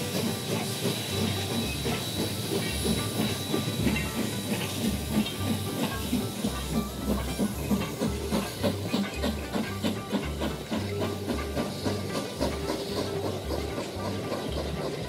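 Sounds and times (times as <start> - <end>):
steam hiss: 0.0 - 15.0
steam locomotive running: 0.0 - 15.0.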